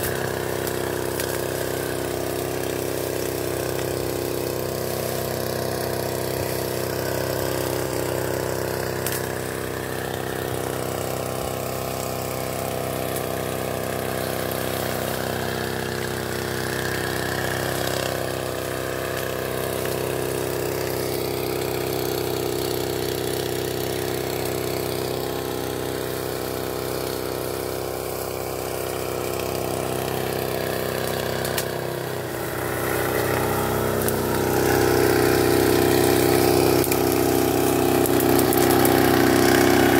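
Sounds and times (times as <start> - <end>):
small sprayer engine running: 0.0 - 39.9.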